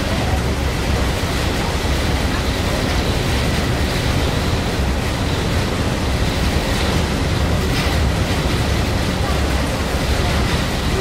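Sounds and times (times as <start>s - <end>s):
heavy low rumble: 0.0s - 11.0s
rushing water: 0.0s - 11.0s
rushing wind: 0.0s - 11.0s.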